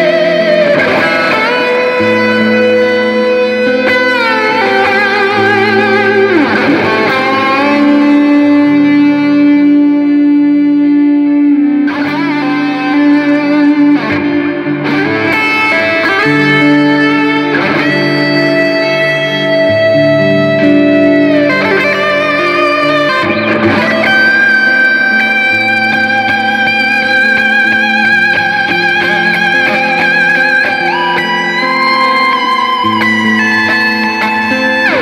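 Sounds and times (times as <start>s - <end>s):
electric guitar sustained notes: 0.0s - 35.0s.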